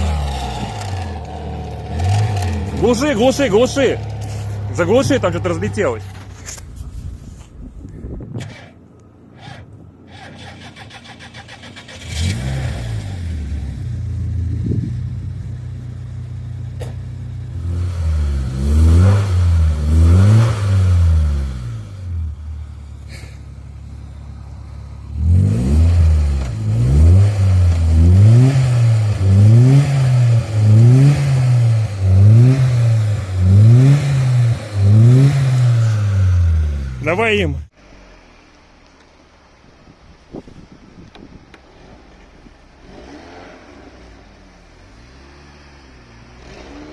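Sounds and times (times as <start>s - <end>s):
engine starting idling and revving: 0.0s - 6.6s, 8.4s - 37.0s, 41.6s - 46.9s.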